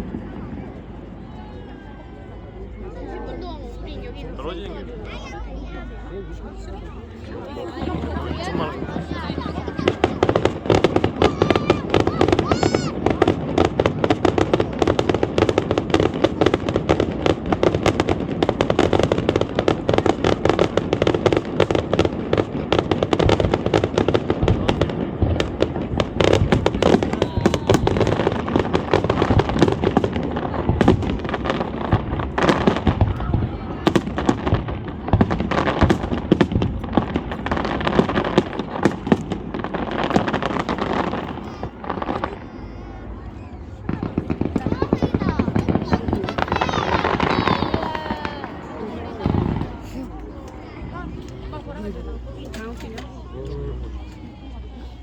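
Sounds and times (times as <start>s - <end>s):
fireworks bangs and crackling: 4.8s - 55.0s.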